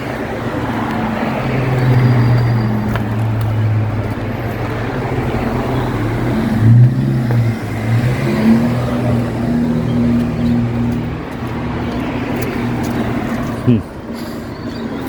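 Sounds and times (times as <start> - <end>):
tyre and road noise: 0.0 - 15.0
vehicle engine humming: 0.0 - 15.0.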